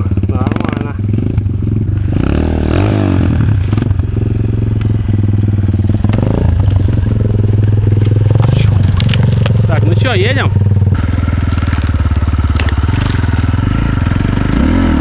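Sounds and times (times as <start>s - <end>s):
dirt bike engine idling: 0.0s - 15.0s.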